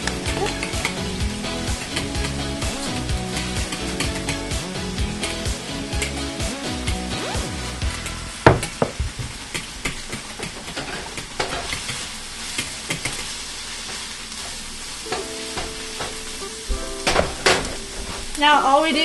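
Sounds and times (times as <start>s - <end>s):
onions sizzling in frying pan: 0.0s - 19.0s.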